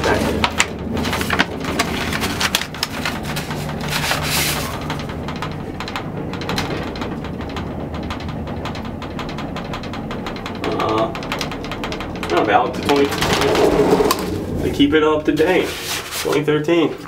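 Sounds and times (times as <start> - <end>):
elevator motor hum: 0.0 - 17.0
elevator rattling and rubbing: 0.0 - 17.0.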